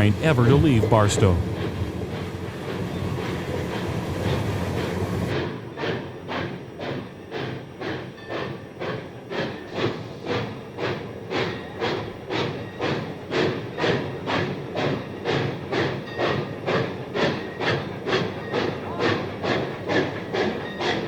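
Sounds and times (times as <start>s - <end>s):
steam locomotive chuffing: 0.0s - 21.0s.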